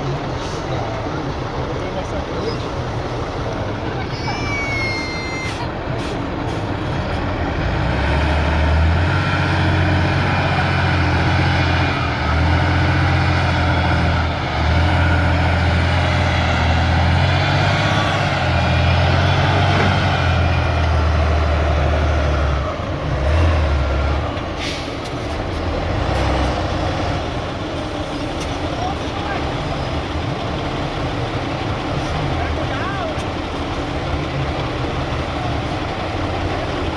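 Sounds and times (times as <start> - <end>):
heavy truck engine revving: 5.4 - 36.9.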